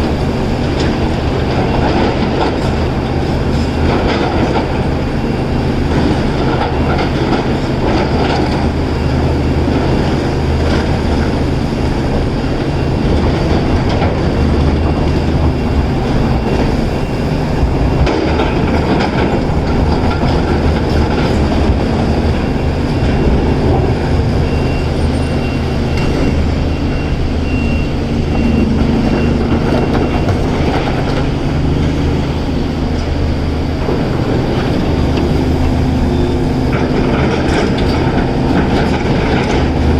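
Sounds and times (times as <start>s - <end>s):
excavator engine and hydraulics: 0.0s - 39.9s
rattling rumble: 0.0s - 39.9s.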